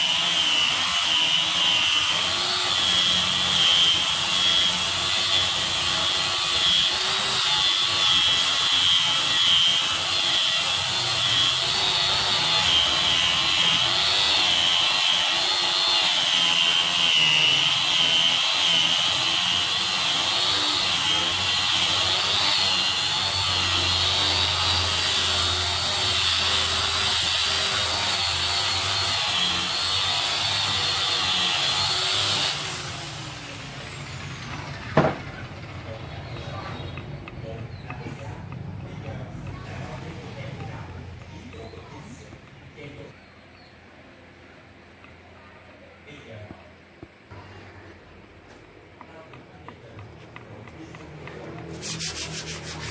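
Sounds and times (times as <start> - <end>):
gritty sanding on wood: 0.0 - 34.8, 35.9 - 42.2, 49.0 - 52.9.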